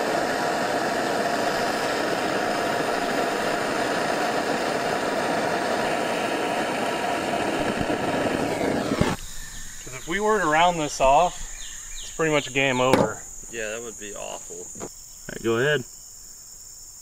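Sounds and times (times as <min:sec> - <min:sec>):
gas torch hissing: 0:00.0 - 0:15.8.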